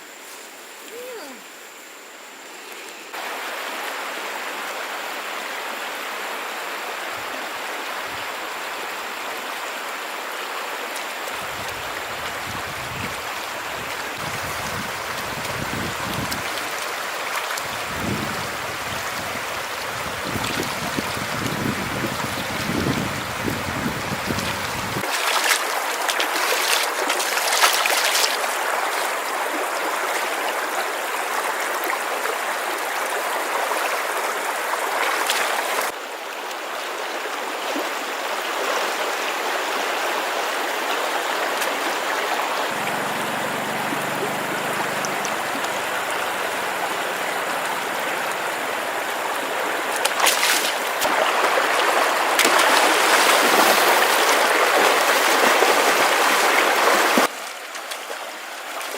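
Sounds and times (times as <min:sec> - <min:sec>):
flowing stream water: 0:00.0 - 0:58.9.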